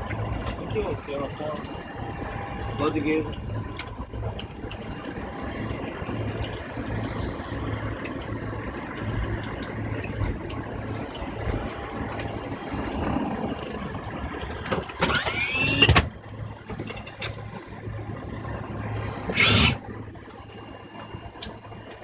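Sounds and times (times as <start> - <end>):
airliner engines humming: 0.0 - 22.0.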